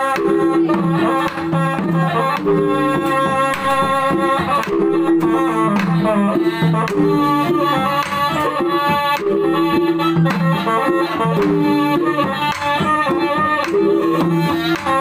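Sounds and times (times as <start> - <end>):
gongs beaten: 0.0 - 15.0
sustained melody line: 0.0 - 15.0.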